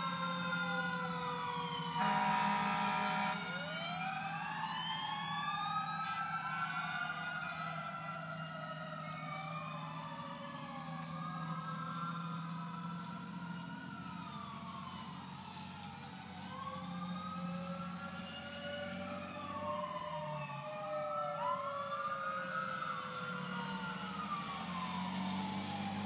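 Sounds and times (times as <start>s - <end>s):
fire engine sirens wailing: 0.0s - 26.0s
truck engines humming: 0.0s - 26.0s.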